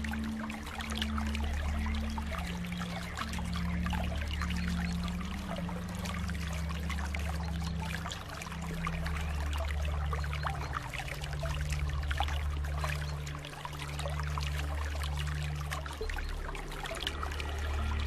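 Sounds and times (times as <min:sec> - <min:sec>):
low hum: 0:00.0 - 0:18.0
water trickling and splashing: 0:00.0 - 0:18.0.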